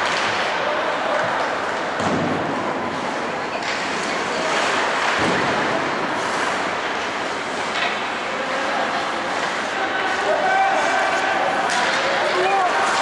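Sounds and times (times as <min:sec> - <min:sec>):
skates scraping on ice: 0:00.0 - 0:13.0.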